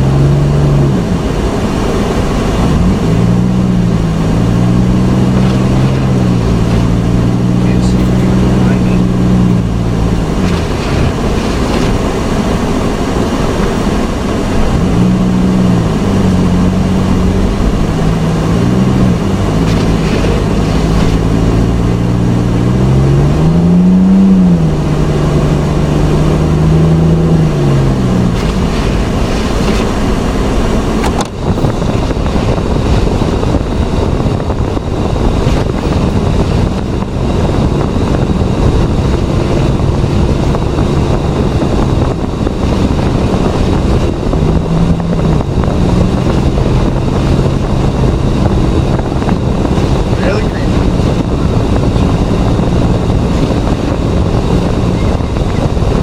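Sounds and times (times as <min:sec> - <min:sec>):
engine revving: 0:00.0 - 0:56.0
loud rushing noise: 0:00.0 - 0:56.0.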